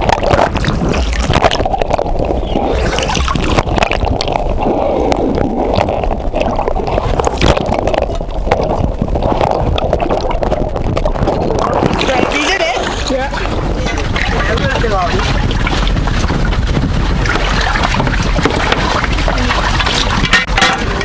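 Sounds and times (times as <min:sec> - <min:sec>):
water gurgling underwater: 0:00.0 - 0:21.0.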